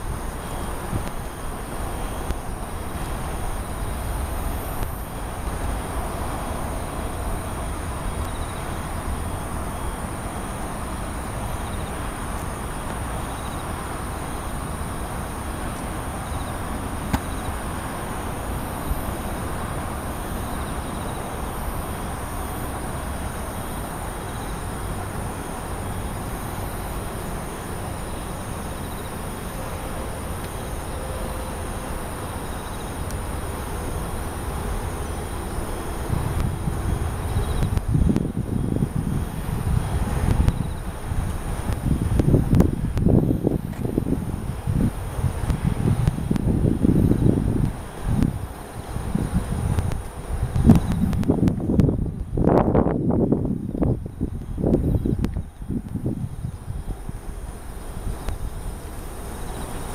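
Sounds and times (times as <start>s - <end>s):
distant city traffic: 0.0s - 59.9s
insects chirping: 0.0s - 59.9s.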